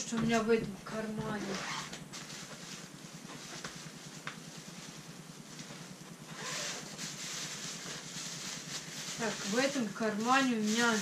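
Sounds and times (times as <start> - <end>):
plastic bags and fabric rustling: 0.0 - 11.0.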